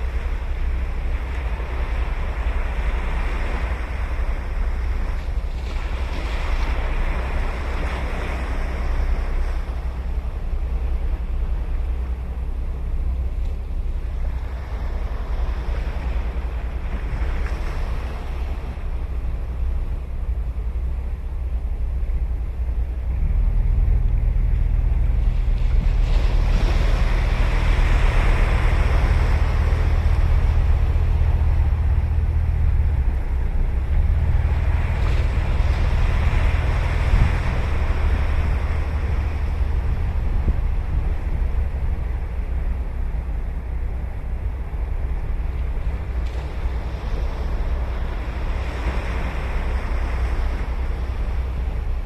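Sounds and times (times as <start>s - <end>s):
waves breaking on sandy beach: 0.0s - 52.0s
wind rumble on microphone: 0.0s - 52.0s.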